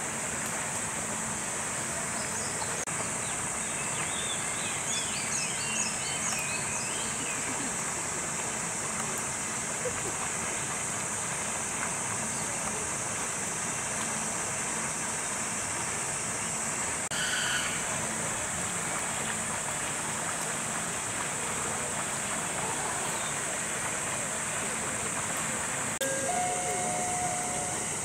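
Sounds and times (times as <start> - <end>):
steady high-pitched hiss: 0.0 - 28.0.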